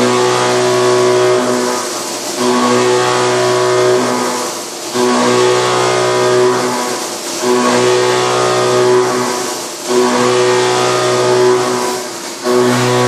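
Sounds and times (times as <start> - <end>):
coolant spray hiss: 0.0 - 13.0
milling machine cutting steel: 0.0 - 13.0.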